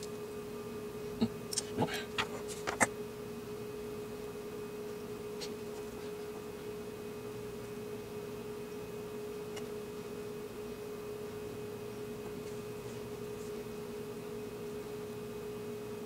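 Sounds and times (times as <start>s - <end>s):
steady tonal hum: 0.0s - 16.0s.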